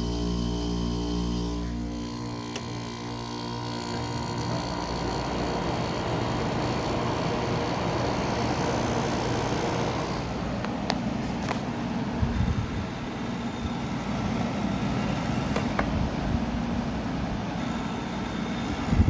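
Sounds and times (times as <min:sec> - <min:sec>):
air conditioner hum: 0:00.0 - 0:19.0
fan air rushing: 0:00.0 - 0:19.0.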